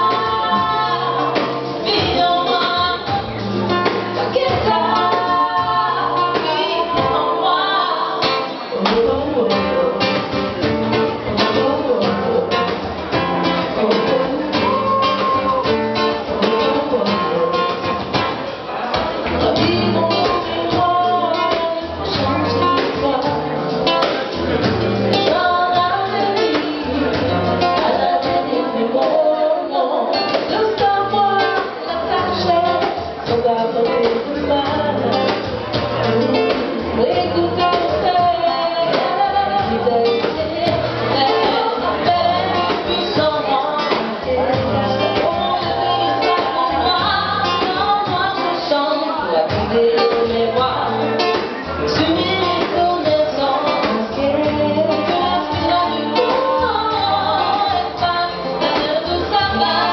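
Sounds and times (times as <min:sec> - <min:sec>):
strummed acoustic guitar: 0:00.0 - 0:59.9
women singing: 0:00.0 - 0:59.9.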